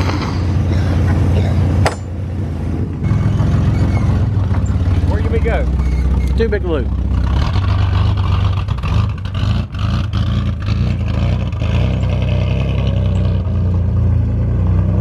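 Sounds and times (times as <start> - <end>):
engine popping and backfiring: 0.0 - 15.0
pickup engine rumbling: 0.0 - 15.0.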